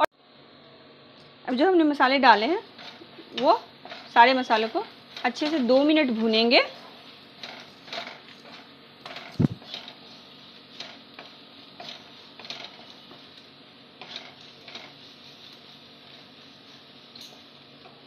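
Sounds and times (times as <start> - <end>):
wooden spatula scraping and stirring: 2.7 - 18.0.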